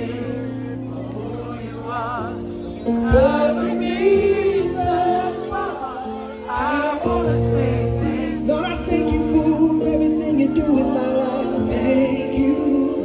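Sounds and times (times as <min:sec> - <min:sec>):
man singing into microphone: 0:00.0 - 0:02.4, 0:03.0 - 0:05.8, 0:06.5 - 0:13.0
keyboard chords: 0:00.0 - 0:13.0.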